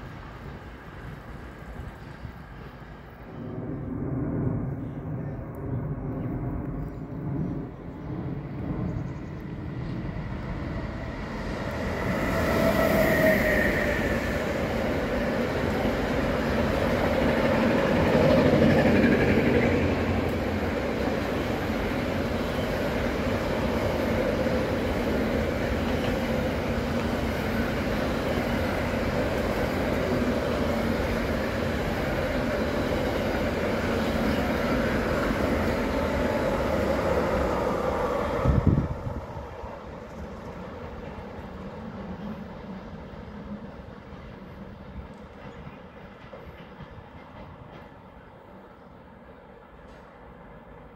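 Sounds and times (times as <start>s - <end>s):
freight train wheels rumbling on rail: 0.0s - 50.9s.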